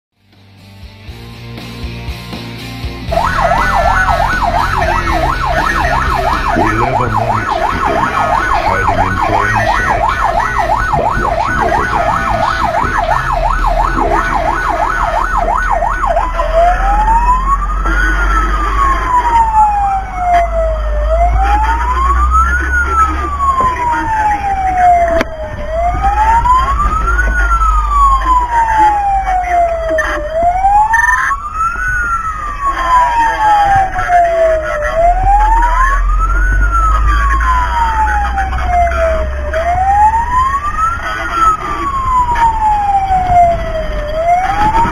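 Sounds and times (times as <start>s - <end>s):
fire engine siren: 3.1s - 44.9s
low vehicle rumble: 3.1s - 44.9s.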